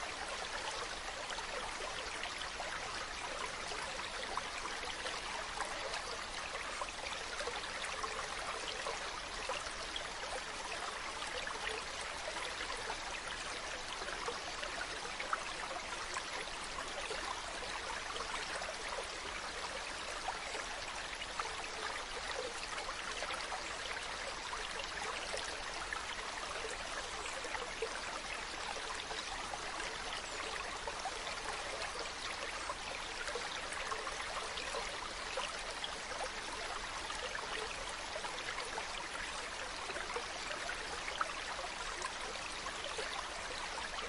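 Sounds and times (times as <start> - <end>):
stream running over rocks: 0.0 - 44.0.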